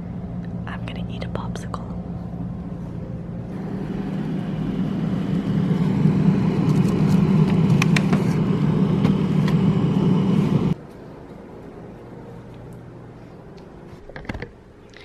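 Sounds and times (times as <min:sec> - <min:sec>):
refrigerator humming: 0:00.0 - 0:14.6.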